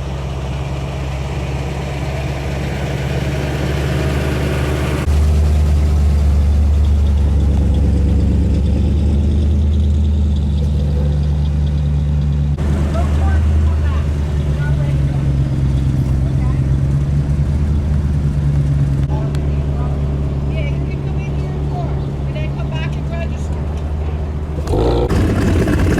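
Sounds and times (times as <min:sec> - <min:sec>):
car engine idling: 0:00.0 - 0:25.9.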